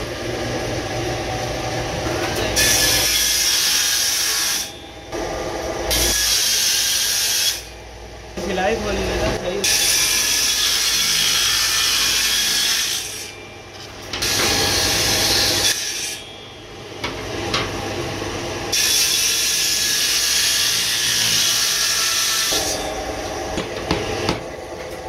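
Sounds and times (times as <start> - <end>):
table saw cutting board: 0.0 - 7.7, 9.6 - 16.3, 16.9 - 24.7.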